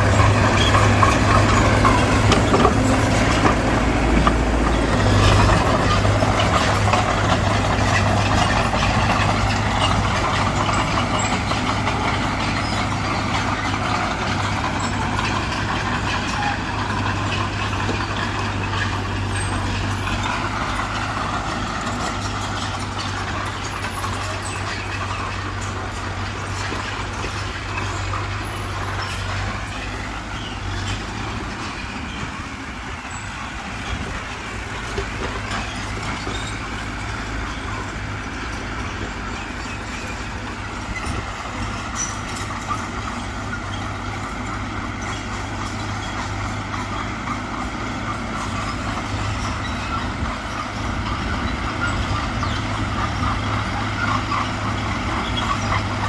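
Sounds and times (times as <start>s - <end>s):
heavy diesel machinery droning: 0.0s - 56.0s.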